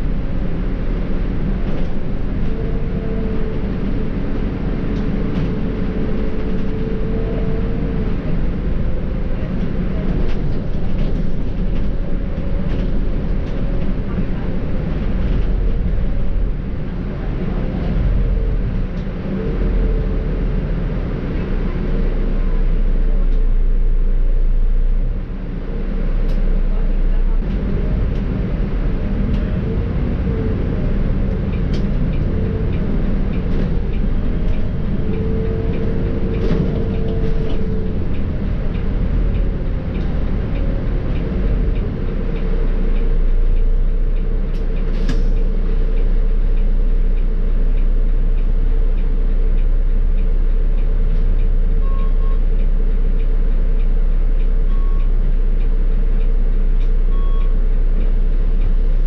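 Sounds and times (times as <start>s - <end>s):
bus diesel engine rumbling: 0.0s - 59.0s.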